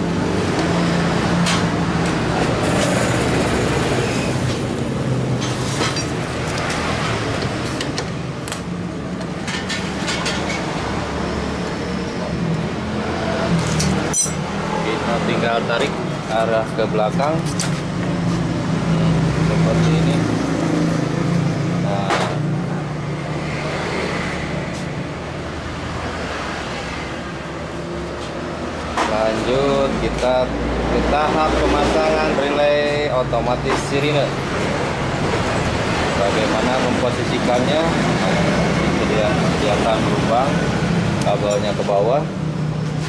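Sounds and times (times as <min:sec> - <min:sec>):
road traffic hum: 0:00.0 - 0:43.0.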